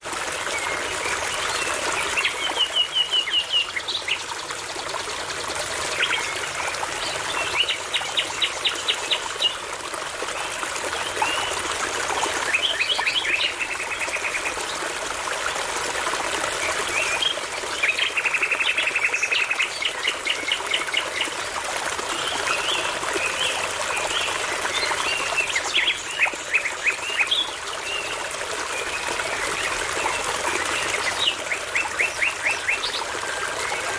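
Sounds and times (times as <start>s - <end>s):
babbling brook: 0.0s - 33.9s.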